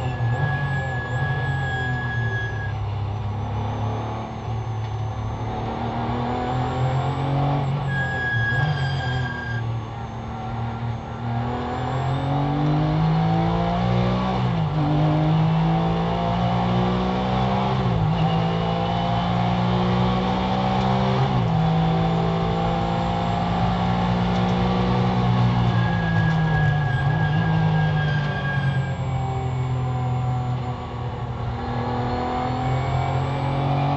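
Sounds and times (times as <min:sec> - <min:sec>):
car engine at full throttle: 0:00.0 - 0:33.9.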